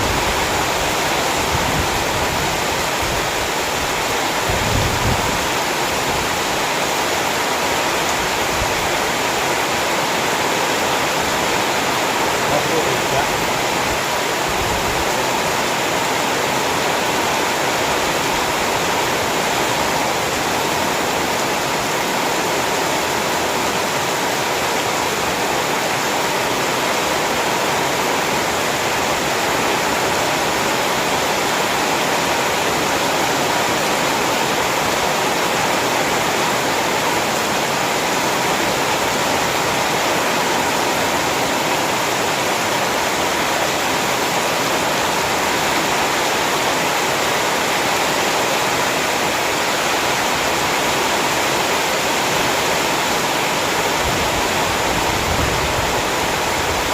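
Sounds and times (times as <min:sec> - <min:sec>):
heavy rain hiss: 0:00.0 - 0:56.9.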